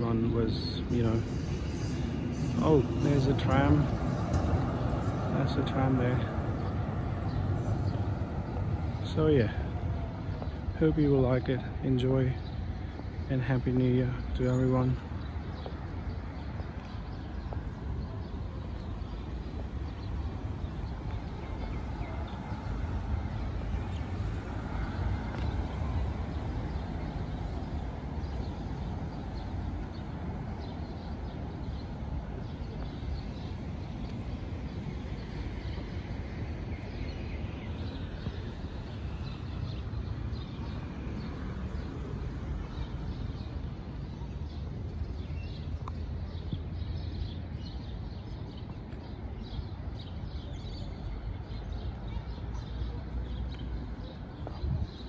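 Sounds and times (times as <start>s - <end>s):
low traffic rumble: 0.0s - 55.0s.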